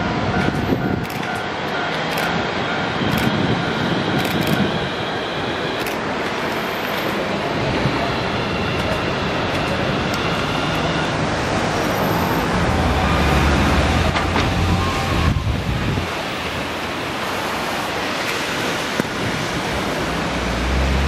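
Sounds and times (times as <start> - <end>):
tram rolling past: 0.0 - 21.0.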